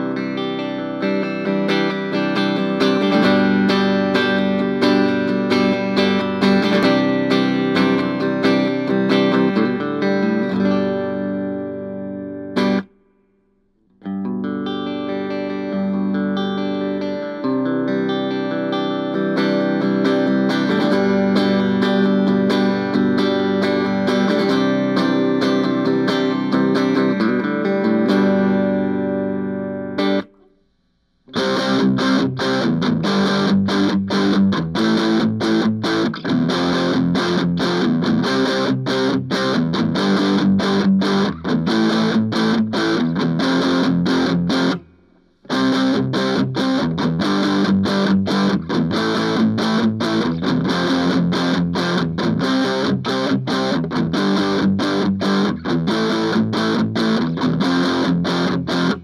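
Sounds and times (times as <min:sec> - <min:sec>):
electric guitar chords: 0:00.0 - 0:30.6, 0:31.3 - 0:59.0.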